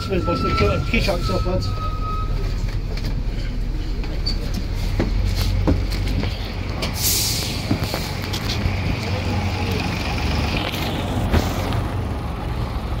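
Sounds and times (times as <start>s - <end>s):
diesel bus engine idling: 0.0s - 13.0s.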